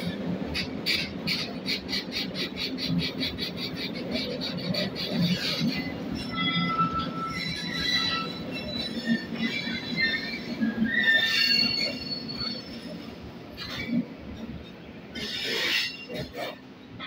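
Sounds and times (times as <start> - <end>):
locomotive wheels squealing: 0.6 - 14.5, 15.1 - 16.6.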